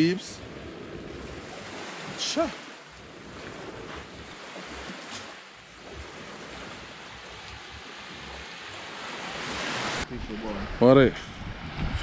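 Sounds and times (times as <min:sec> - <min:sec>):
small waves breaking on shore: 0:00.0 - 0:10.8
wind: 0:00.0 - 0:12.0.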